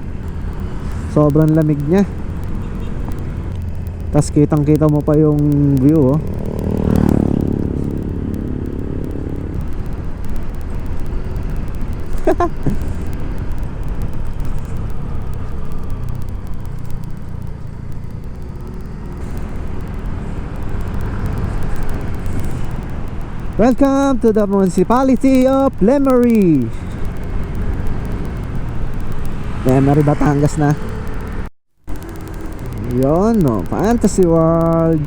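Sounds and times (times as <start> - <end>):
road noise: 0.0 - 35.0
scooter engine rumble: 0.0 - 35.0
wind noise: 0.0 - 35.0.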